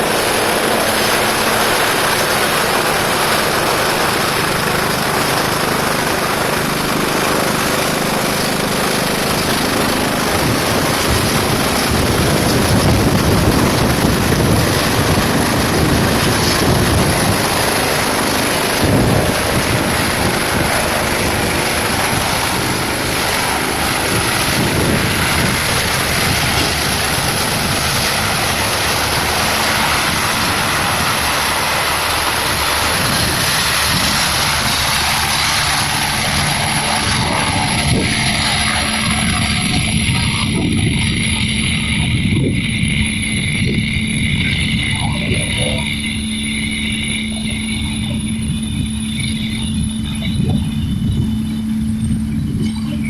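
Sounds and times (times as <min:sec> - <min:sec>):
helicopter running: 0:00.0 - 0:53.0
high turbine whine: 0:00.0 - 0:53.0.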